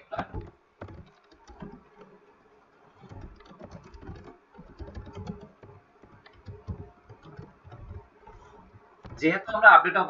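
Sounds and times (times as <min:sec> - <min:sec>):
keyboard typing: 0:00.0 - 0:09.4.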